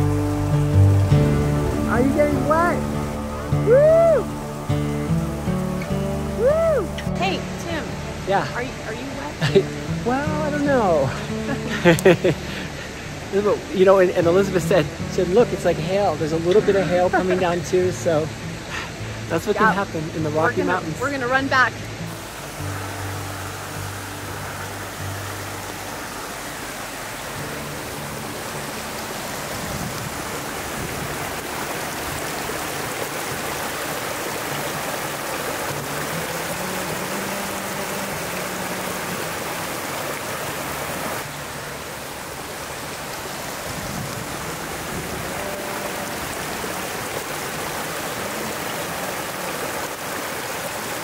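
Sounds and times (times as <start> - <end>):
river rushing: 0.0 - 51.0.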